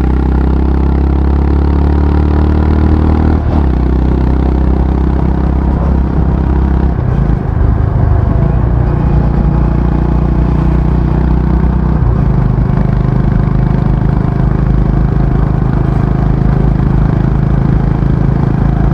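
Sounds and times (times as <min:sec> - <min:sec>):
motorcycle engine and exhaust: 0:00.0 - 0:18.9.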